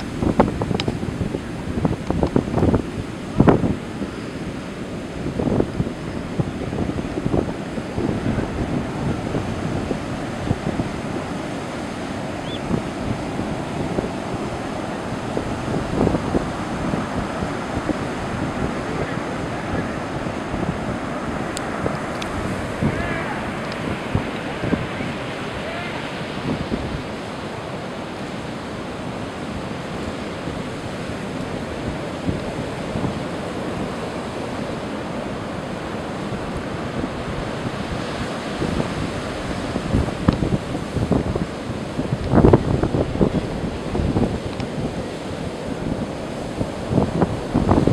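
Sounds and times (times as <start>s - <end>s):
storm surf breaking on beach: 0.0s - 47.9s
wind buffeting microphone: 0.0s - 47.9s.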